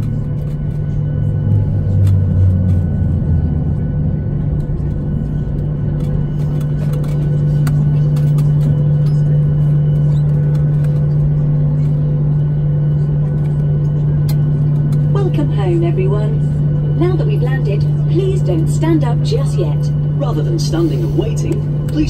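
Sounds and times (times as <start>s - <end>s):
deeper drone: 0.0s - 22.0s
jet engines idling hum: 0.0s - 22.0s
low rumble: 0.0s - 22.0s.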